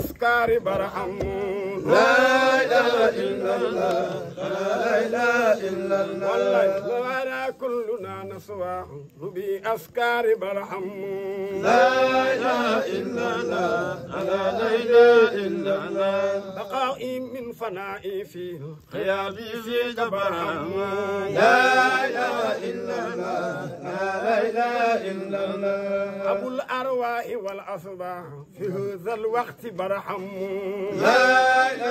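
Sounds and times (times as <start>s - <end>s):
devotional chanting: 0.0s - 31.9s.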